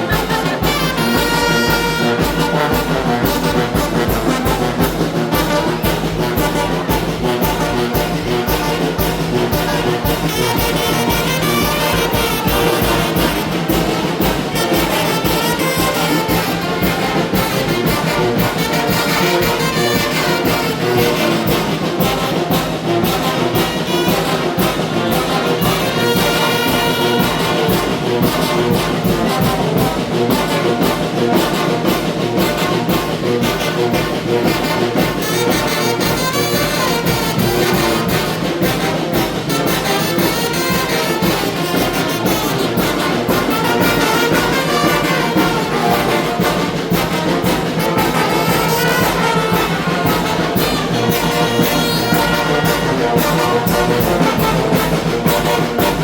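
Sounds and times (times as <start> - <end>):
brass band playing: 0.0 - 56.0
percussion beat: 0.0 - 56.0.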